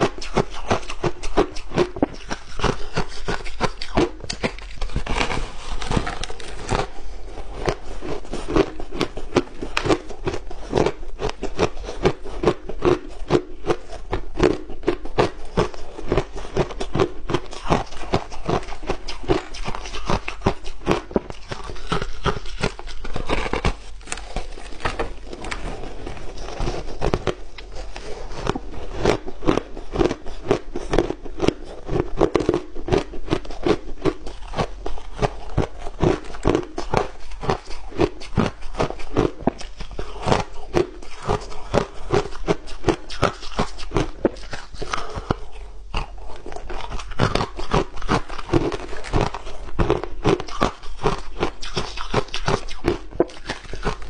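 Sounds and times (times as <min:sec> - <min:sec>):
crushed ice being chewed: 0:00.0 - 0:54.0.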